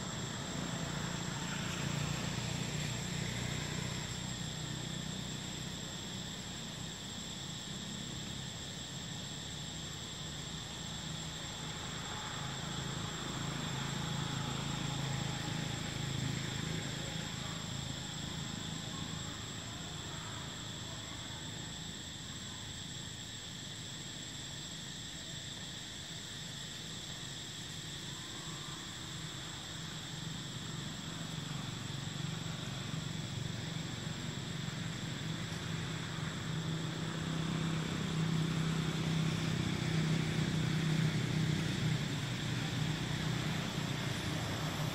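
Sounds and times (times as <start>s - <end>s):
insect chorus: 0.0s - 44.9s.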